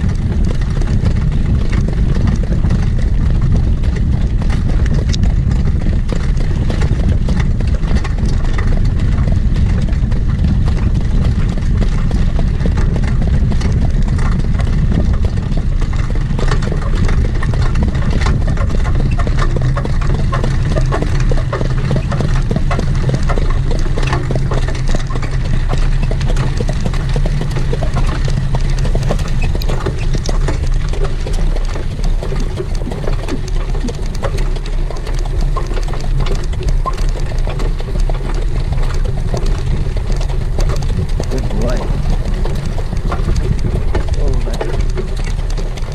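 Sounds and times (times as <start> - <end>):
horse hoofbeats: 0.0 - 45.9
wind rumble on microphone: 0.0 - 45.9.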